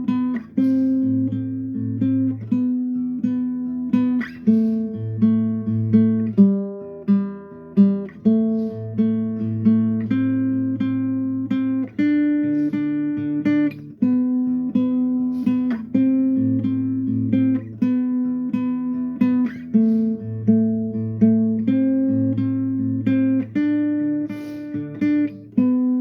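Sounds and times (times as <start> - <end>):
acoustic guitar picking: 0.0 - 26.0.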